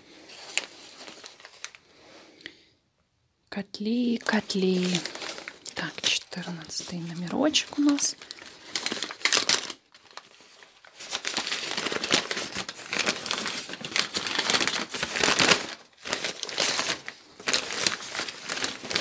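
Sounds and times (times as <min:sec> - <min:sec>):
paper wrapping crinkling: 0:00.0 - 0:02.0, 0:03.8 - 0:19.0.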